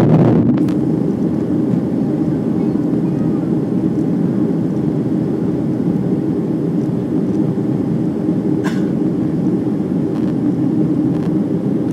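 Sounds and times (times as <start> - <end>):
jet engine cabin drone: 0.0 - 11.9.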